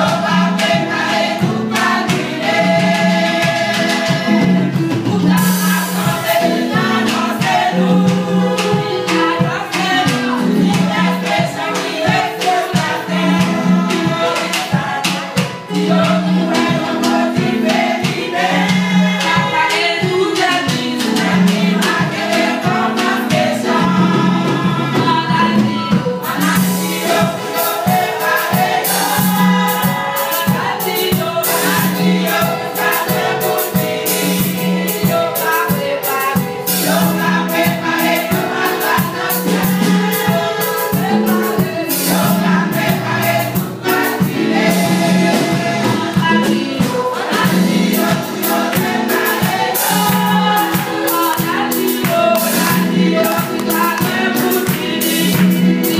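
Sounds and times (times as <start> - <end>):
rhythmic percussion beat: 0.0 - 55.9
women's choir singing gospel: 0.0 - 55.9.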